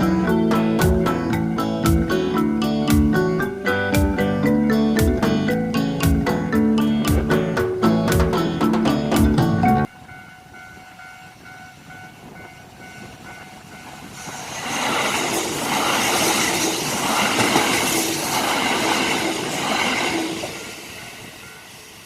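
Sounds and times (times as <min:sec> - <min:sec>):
crossing bell ringing: 0:00.0 - 0:17.9, 0:19.6 - 0:22.0
electric train passing: 0:00.0 - 0:22.0.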